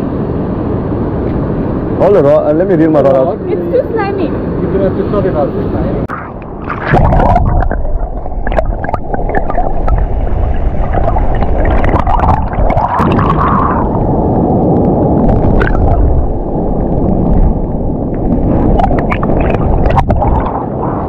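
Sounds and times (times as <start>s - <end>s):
sea water rushing and gurgling: 0.0s - 21.0s.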